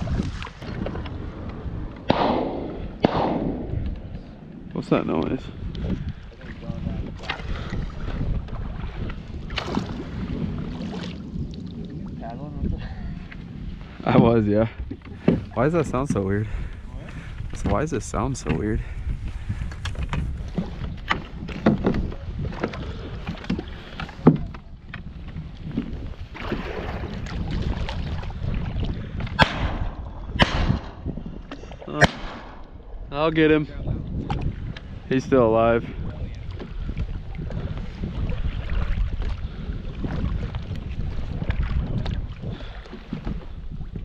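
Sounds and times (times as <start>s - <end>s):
paddle splashes: 0.0s - 2.3s, 5.9s - 12.3s, 13.0s - 30.1s, 34.0s - 44.0s
wind rumble on microphone: 0.0s - 44.0s.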